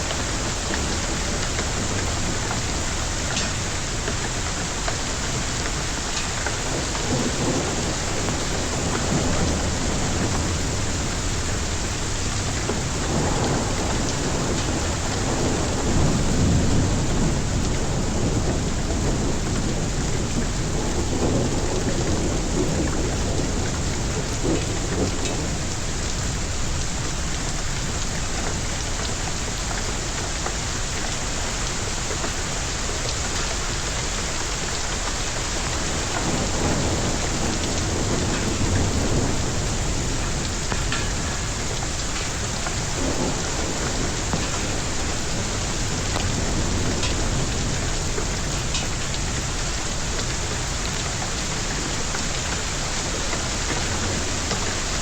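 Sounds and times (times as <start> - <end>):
rolling thunder: 0.0 - 32.8, 33.7 - 55.0
heavy rain pouring: 0.0 - 55.0.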